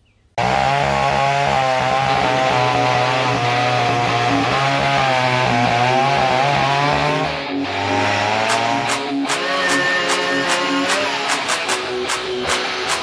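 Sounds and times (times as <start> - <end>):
chainsaw cutting log: 0.4 - 13.0.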